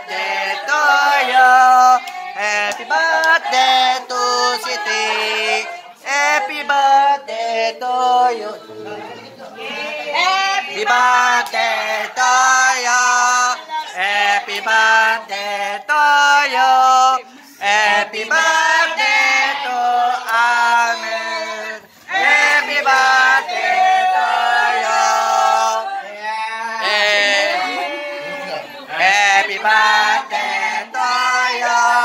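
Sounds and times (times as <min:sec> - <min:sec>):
man and woman singing: 0:00.0 - 0:32.0.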